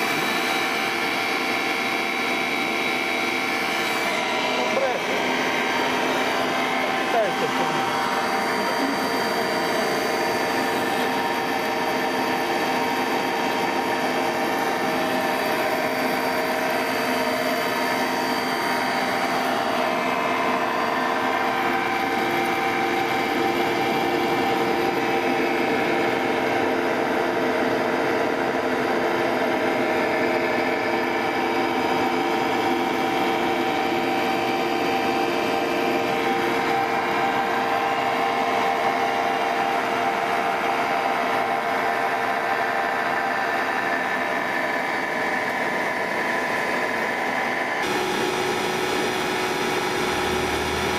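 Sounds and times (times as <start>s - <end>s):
motor-generator humming and whining: 0.0s - 50.9s.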